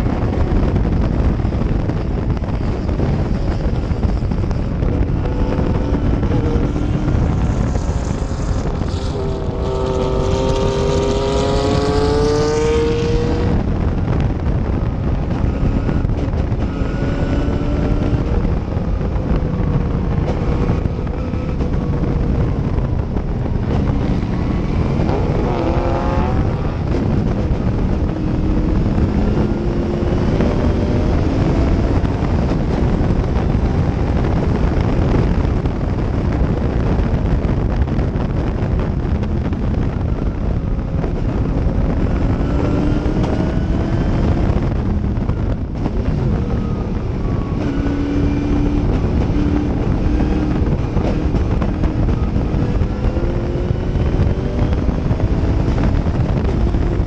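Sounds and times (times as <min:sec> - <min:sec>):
race car engine revving: 0:00.0 - 0:36.9, 0:40.5 - 0:57.0
wind rush on microphone: 0:00.0 - 0:57.0.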